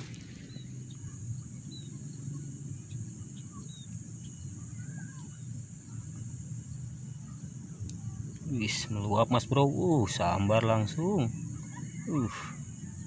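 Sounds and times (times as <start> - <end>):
crickets singing: 0.0 - 13.0.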